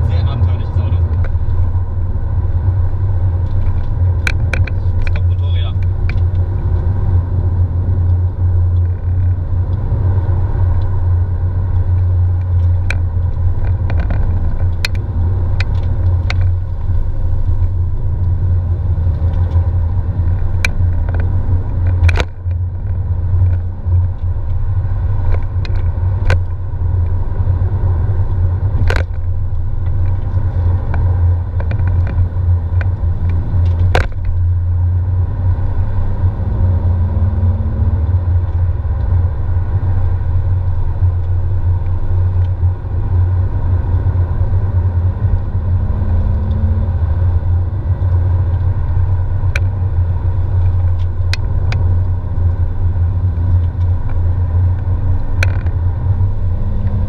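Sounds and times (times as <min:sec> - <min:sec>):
car engine and road drone: 0:00.0 - 0:57.0.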